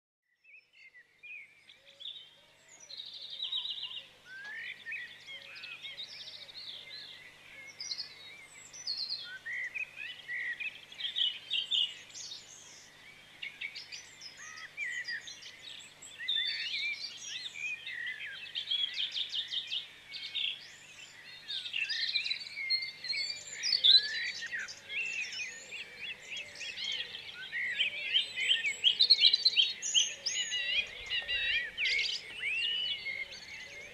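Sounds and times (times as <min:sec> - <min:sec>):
songbirds chorus: 0:00.3 - 0:33.9.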